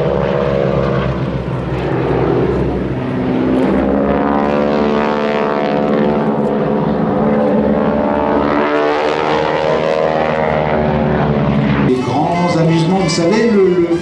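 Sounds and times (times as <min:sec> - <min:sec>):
propeller plane engines droning: 0:00.0 - 0:14.0.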